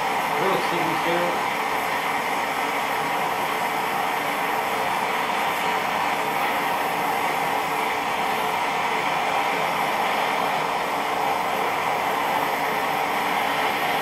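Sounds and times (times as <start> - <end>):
gas burner rushing: 0.0 - 14.0.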